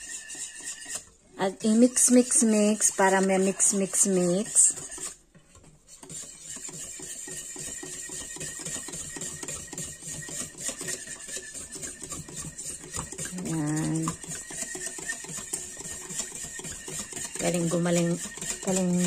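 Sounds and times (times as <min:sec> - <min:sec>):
whisk scraping glass bowl: 0:00.0 - 0:19.0.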